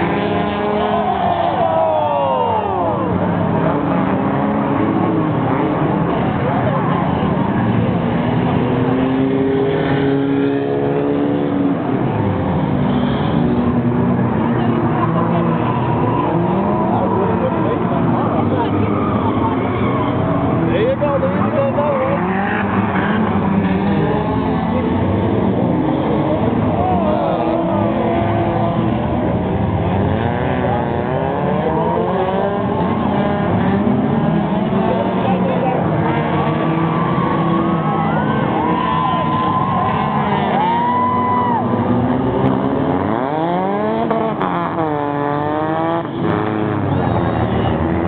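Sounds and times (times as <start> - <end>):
race car engines at speed: 0.0 - 48.0.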